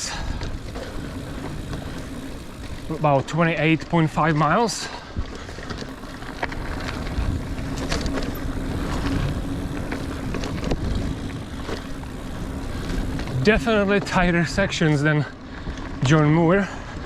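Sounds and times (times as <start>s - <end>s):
bike rattling over rocks: 0.0s - 17.0s
bike tyres rolling on dirt: 0.0s - 17.0s.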